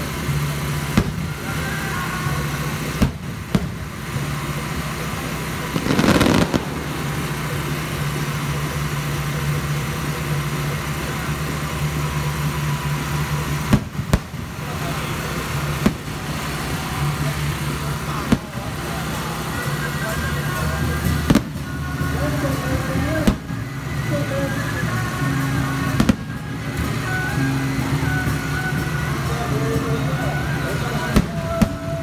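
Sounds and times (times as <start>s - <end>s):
fireworks bangs: 0.0s - 32.0s
low engine hum: 0.0s - 32.0s.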